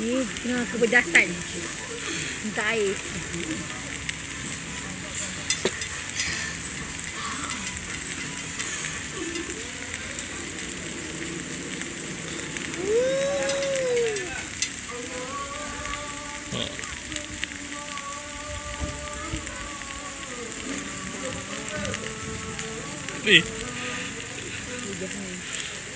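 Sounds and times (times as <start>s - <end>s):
food sizzling on a grill: 0.0s - 25.9s.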